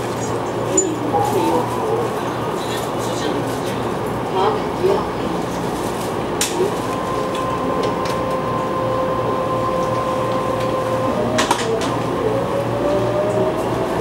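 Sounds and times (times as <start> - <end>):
train inverter whining: 0.0 - 14.0
train running noise: 0.0 - 14.0.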